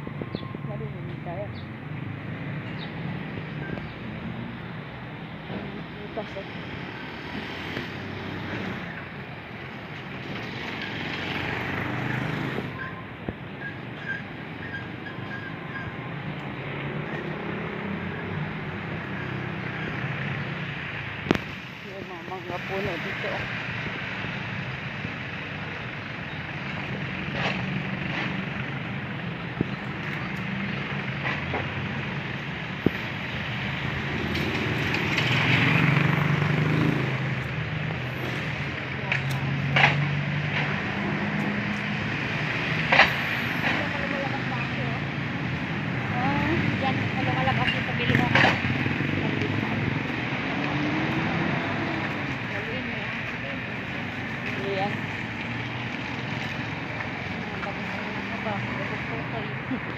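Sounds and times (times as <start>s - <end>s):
vehicle passing on street: 0.0s - 59.9s.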